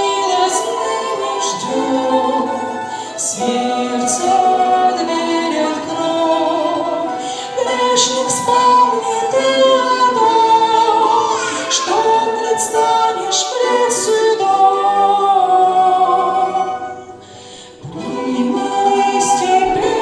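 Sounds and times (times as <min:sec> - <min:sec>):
woman singing long notes: 0:00.0 - 0:17.1, 0:17.8 - 0:20.0
musical accompaniment: 0:00.0 - 0:20.0.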